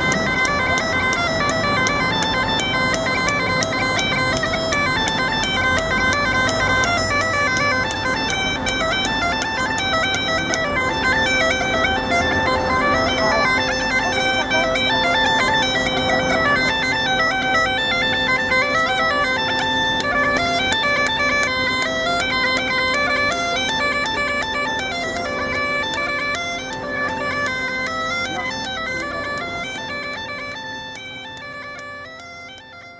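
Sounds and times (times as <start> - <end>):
bagpipe music: 0.0 - 32.9.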